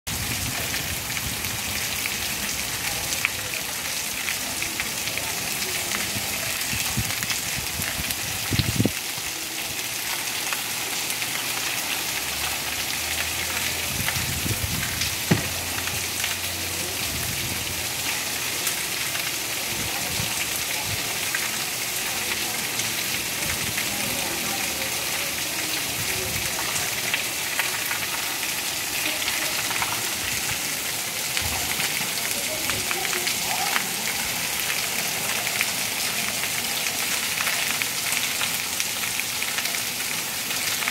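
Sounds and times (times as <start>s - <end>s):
rain on wet pavement: 0.1s - 40.9s.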